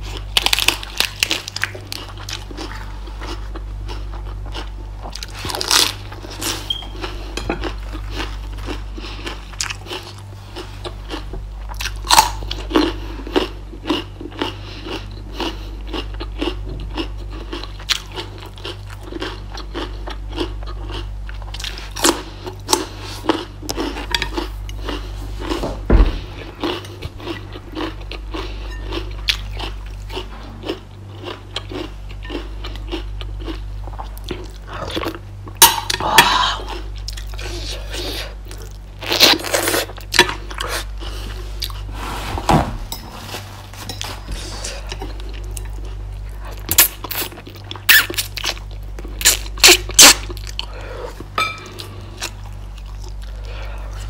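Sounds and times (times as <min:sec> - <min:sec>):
person crunching raw vegetables: 0:00.0 - 0:42.1, 0:42.9 - 0:54.0
steady low hum: 0:00.0 - 0:54.0.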